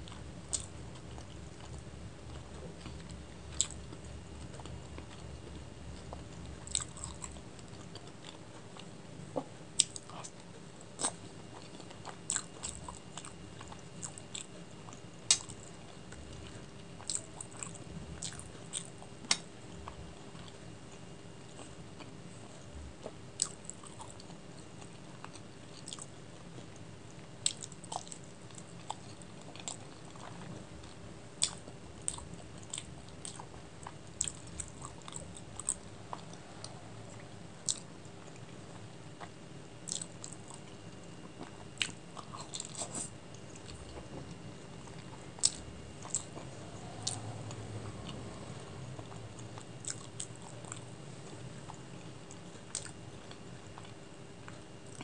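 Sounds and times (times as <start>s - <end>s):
chewing with mouth clicks: 0.0s - 55.0s
low room hum: 0.0s - 55.0s.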